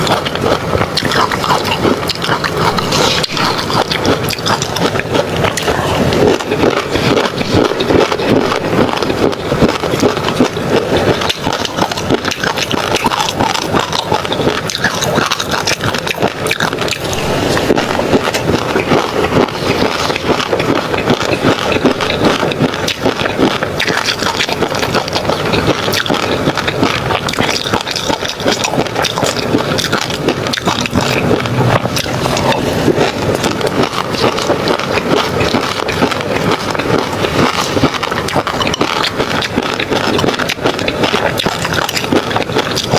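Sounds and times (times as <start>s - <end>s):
wet crackles of chewing: 0.0s - 42.9s.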